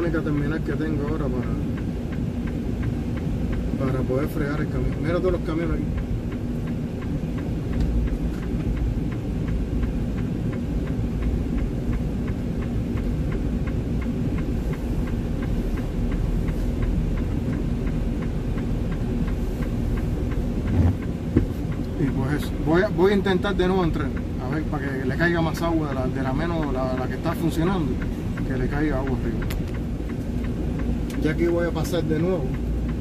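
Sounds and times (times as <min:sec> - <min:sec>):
diesel truck engine rumble: 0:00.0 - 0:33.0
faint regular ticking: 0:00.0 - 0:33.0.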